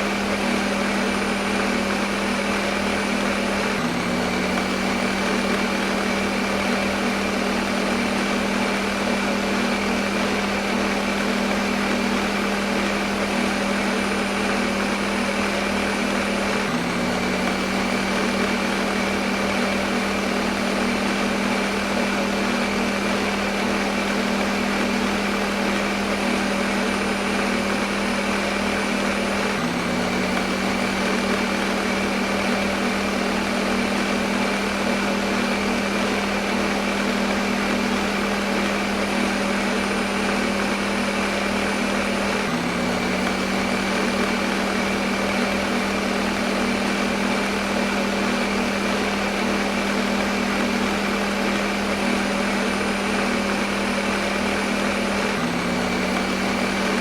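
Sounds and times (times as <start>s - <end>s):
blender motor whirring: 0.0s - 57.0s.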